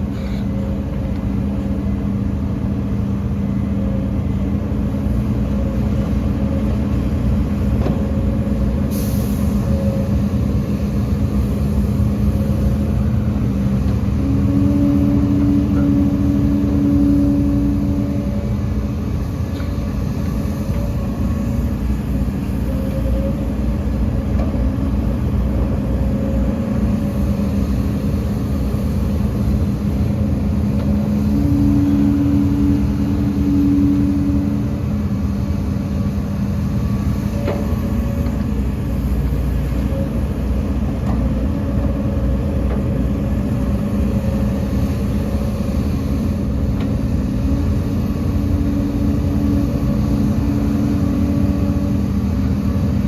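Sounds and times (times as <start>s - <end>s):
diesel earthmoving machinery: 0.0s - 53.0s.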